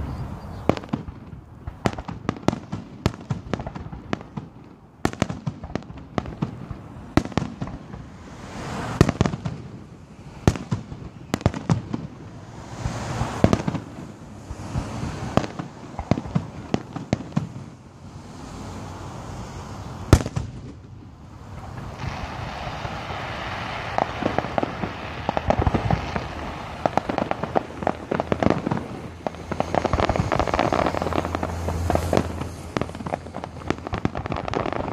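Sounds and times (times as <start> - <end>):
firework bangs: 0.0 - 34.9
firework crackling pops: 0.6 - 18.7, 20.0 - 34.9.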